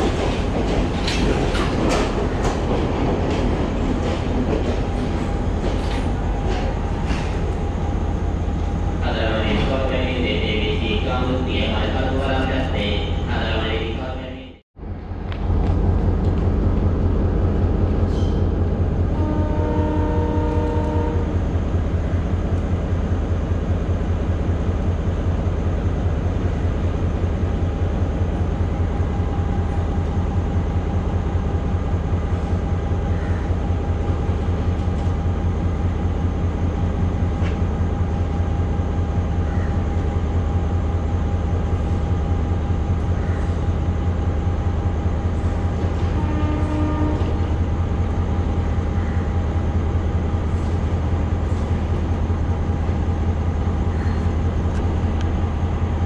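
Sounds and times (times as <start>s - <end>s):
diesel train engine rumbling: 0.0s - 56.0s.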